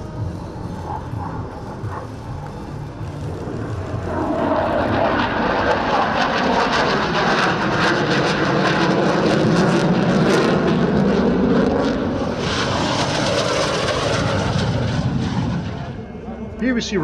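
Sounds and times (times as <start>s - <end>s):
plane flying past: 0.0s - 17.0s.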